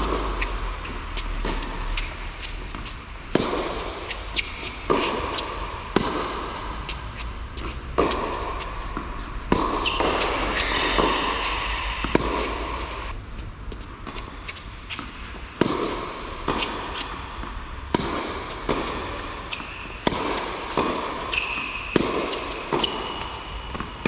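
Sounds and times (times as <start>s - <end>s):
tennis balls hit with rackets: 0.0s - 13.2s, 13.8s - 24.0s
tennis balls bouncing: 0.0s - 24.0s.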